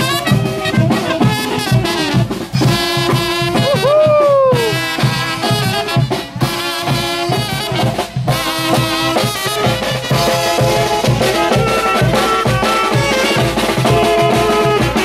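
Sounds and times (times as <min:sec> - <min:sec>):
bass drum and snare beat: 0:00.0 - 0:15.0
saxophones and brass melody: 0:00.0 - 0:15.0.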